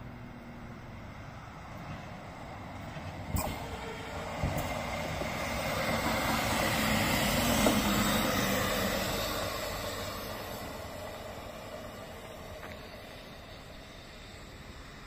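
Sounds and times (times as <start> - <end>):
railcar passing on track: 0.0 - 15.0.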